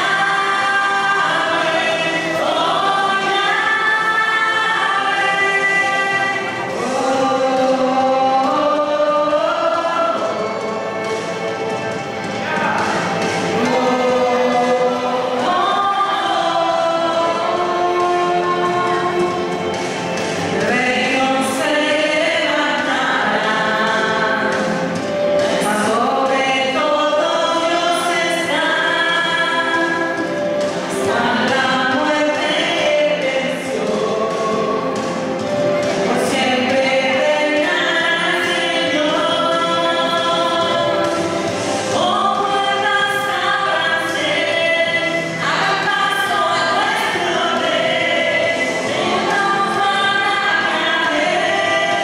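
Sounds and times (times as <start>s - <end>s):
background music: 0.0s - 52.0s
vocal group singing held notes: 0.0s - 52.0s.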